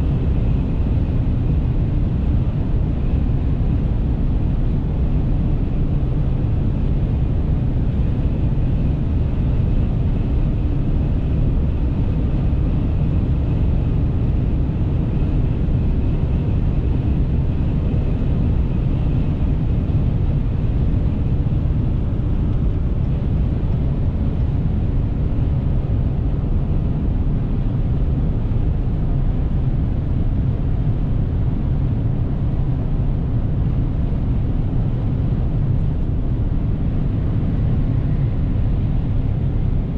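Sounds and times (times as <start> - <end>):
truck engine drone in cab: 0.0 - 39.9.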